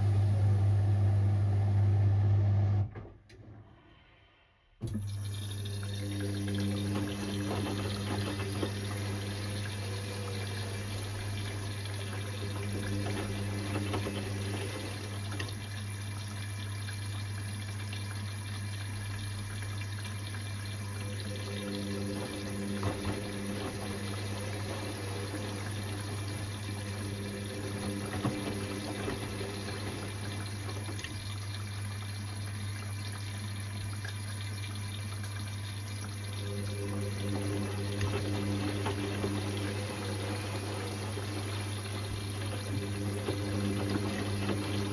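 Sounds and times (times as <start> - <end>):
water running in washing machine: 0.0 - 2.8, 4.8 - 44.9
low machine hum: 0.0 - 2.9, 4.8 - 16.4, 18.7 - 34.0, 34.8 - 44.9.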